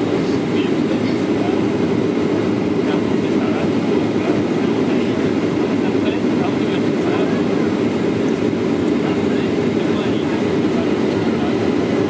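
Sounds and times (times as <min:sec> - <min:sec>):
jet airliner cabin roar: 0:00.0 - 0:12.0.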